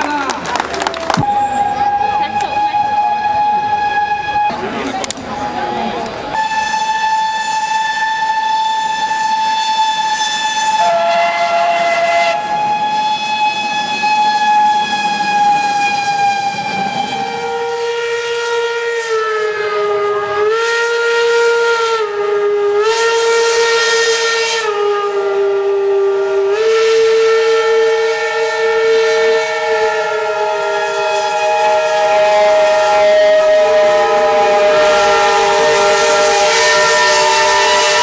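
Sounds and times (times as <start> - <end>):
steam locomotive whistles: 0.8 - 38.0.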